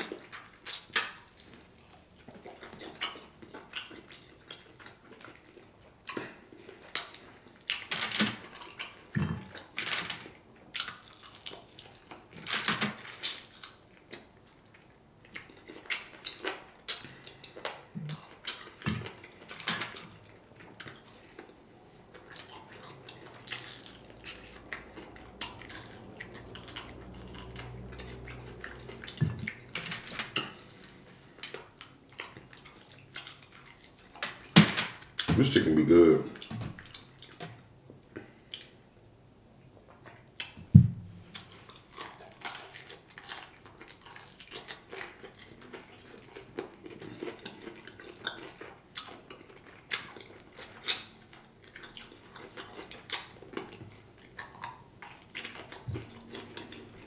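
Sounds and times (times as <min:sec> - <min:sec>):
crunching and chewing: 0:00.0 - 0:38.9, 0:39.7 - 0:40.6, 0:41.2 - 0:57.0.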